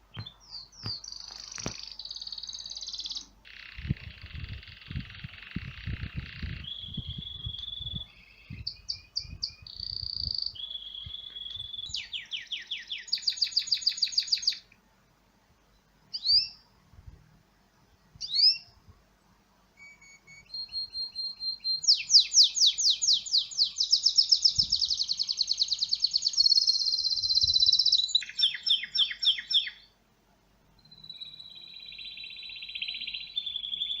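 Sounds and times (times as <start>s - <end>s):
recorded birdsong from a phone: 0.0s - 19.0s, 19.7s - 34.0s.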